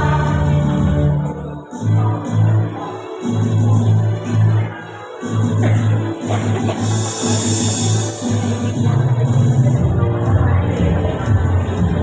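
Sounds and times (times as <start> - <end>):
loud music with pulsing bass: 0.0 - 12.0.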